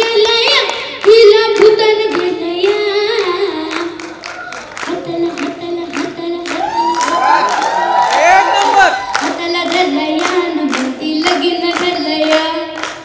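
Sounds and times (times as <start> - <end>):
girl singing into a microphone: 0.0 - 7.2, 9.0 - 13.0
beat of sharp claps: 0.0 - 13.0.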